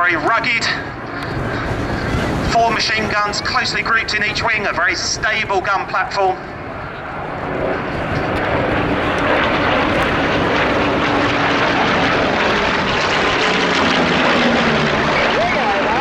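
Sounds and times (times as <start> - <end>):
propeller plane engine overhead: 0.0 - 16.0.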